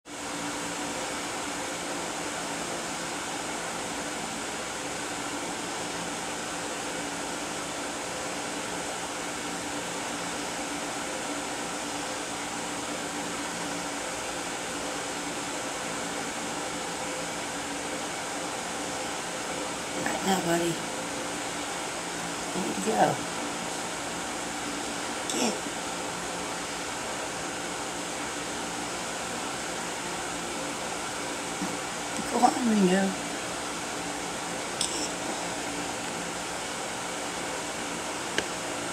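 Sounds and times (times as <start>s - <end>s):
fan whooshing hum: 0.0s - 38.9s.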